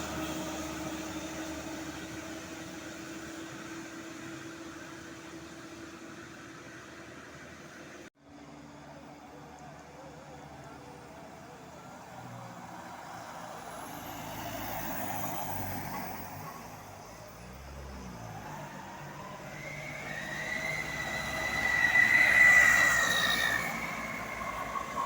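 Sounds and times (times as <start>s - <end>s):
diesel vehicle engine drone: 0.0s - 25.0s.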